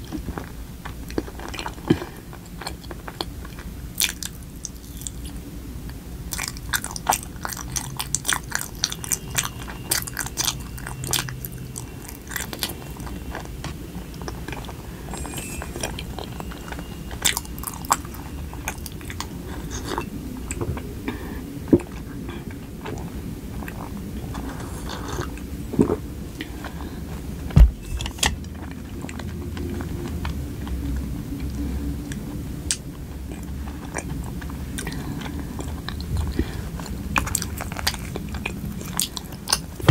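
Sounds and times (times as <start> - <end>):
chewing sticky rice cake: 0.0 - 39.9.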